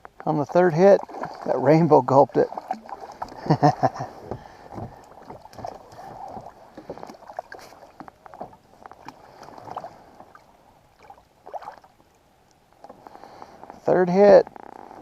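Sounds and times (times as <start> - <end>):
water lapping and splashing: 0.0 - 15.0.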